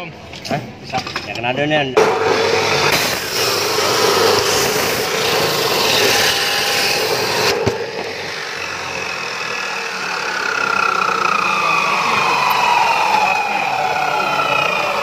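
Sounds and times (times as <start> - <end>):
abrasive saw grinding metal: 2.0 - 15.0
saw motor running: 2.0 - 15.0.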